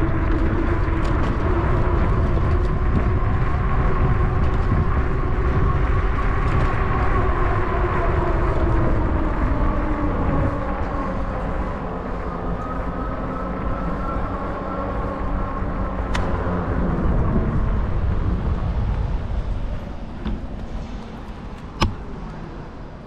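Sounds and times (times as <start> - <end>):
wind and bicycle tyres rumbling: 0.0 - 23.0.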